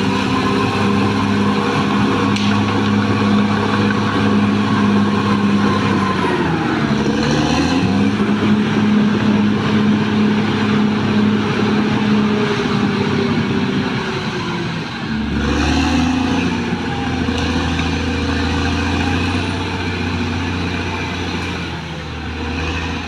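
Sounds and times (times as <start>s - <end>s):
bulldozer diesel engine running hard: 0.0s - 23.0s.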